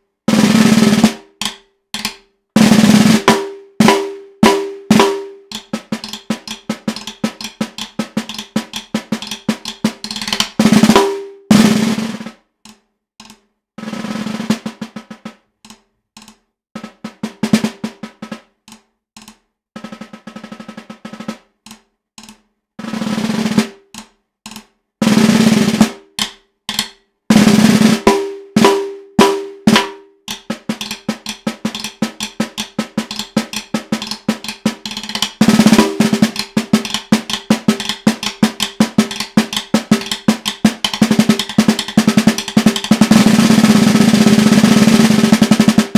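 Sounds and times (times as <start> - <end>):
snare drum strokes and rolls: 0.3 - 1.5, 2.6 - 12.4, 13.8 - 15.4, 16.8 - 18.5, 19.8 - 21.5, 22.8 - 23.8, 25.0 - 45.9.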